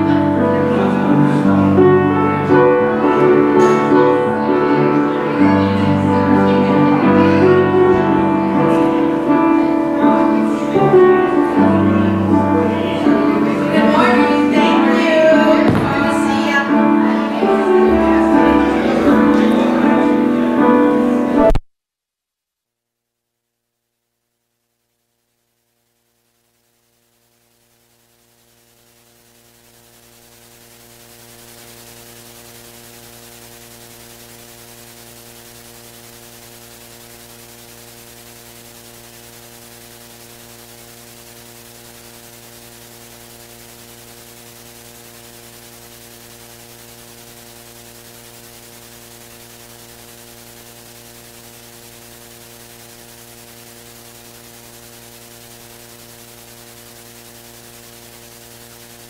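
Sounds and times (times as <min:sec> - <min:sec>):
electrical mains hum: 0:00.0 - 0:21.6, 0:23.8 - 0:59.0
steady hiss: 0:00.0 - 0:21.6, 0:24.7 - 0:59.0.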